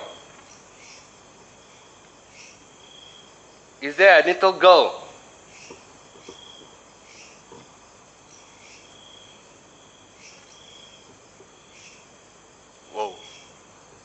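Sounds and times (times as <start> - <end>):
insect chirping trills: 0.0 - 14.0.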